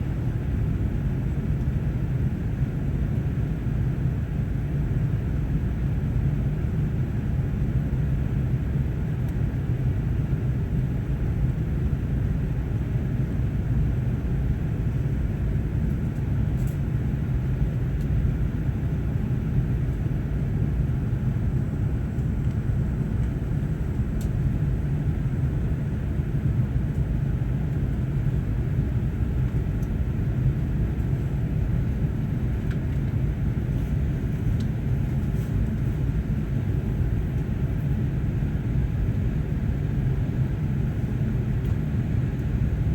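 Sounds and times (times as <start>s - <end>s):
airliner cabin engine rumble: 0.0s - 42.9s.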